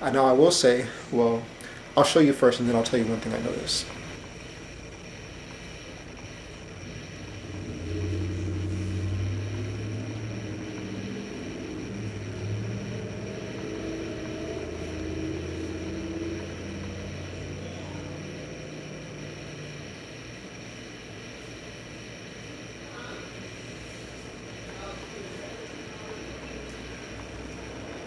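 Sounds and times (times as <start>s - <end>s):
faint high whine: 0.0s - 28.0s
low engine-like drone: 0.0s - 28.0s.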